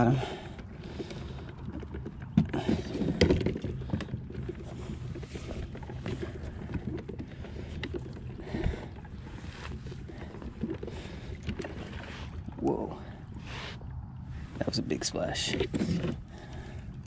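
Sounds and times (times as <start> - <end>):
water along kayak hull: 0.0 - 17.0.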